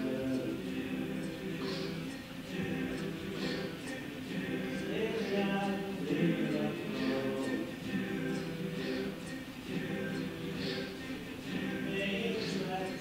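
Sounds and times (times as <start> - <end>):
hissing consonant sounds: 0.0 - 13.0
male group singing in harmony: 0.0 - 13.0.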